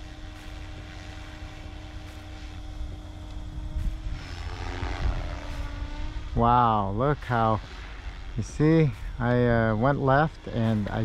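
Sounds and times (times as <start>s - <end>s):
rc helicopter whining: 0.0s - 11.0s.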